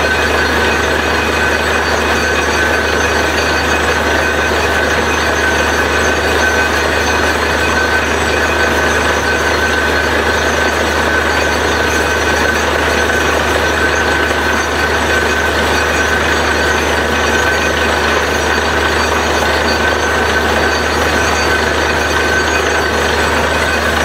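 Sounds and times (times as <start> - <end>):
drilling rig running: 0.0 - 24.0
high machine whine: 0.0 - 24.0.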